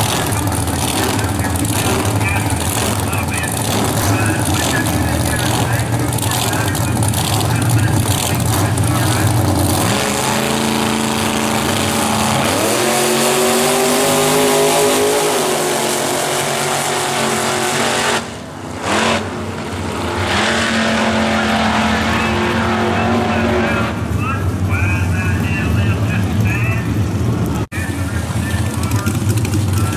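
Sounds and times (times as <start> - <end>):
drag racing cars at full throttle: 0.0 - 29.9.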